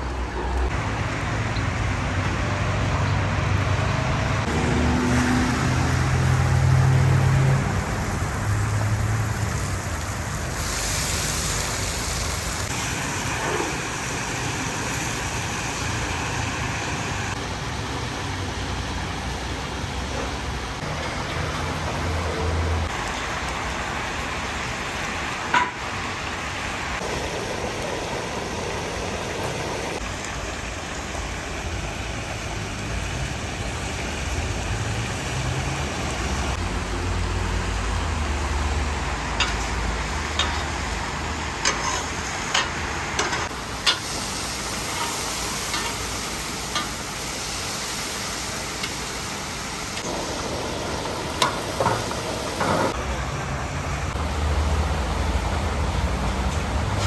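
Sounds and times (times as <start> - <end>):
food sizzling in a cauldron: 0.7 - 19.8, 20.8 - 53.0.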